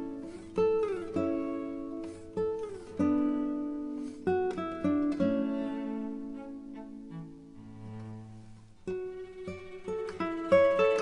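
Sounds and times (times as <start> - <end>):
acoustic guitar slow melody: 0.0 - 11.0.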